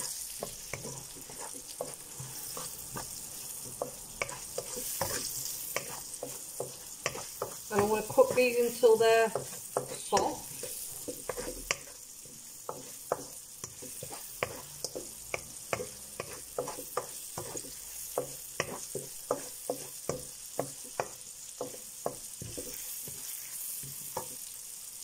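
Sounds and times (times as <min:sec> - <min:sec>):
wooden spoon scraping pan: 0:00.0 - 0:24.4
onions sizzling in oil: 0:00.0 - 0:25.0.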